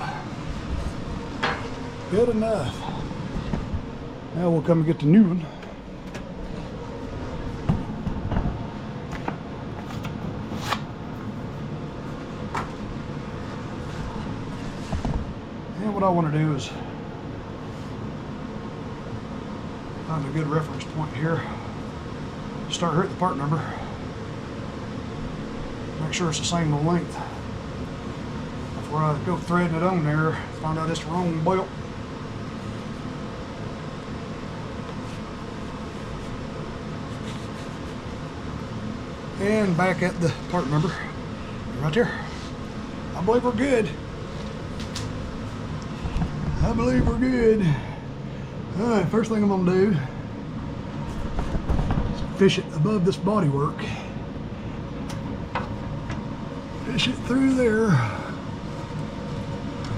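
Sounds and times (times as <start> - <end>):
steady background hum: 0.0 - 59.9.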